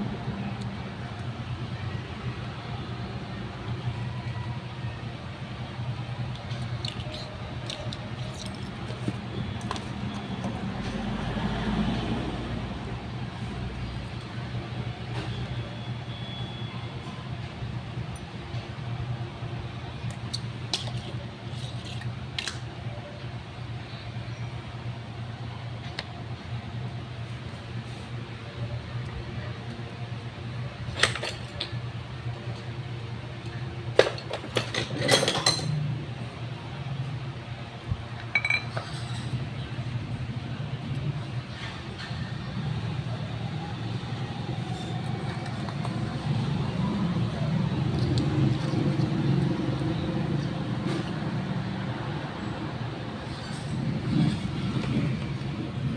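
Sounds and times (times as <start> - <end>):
constant low hum: 0.0 - 11.6, 12.4 - 55.9.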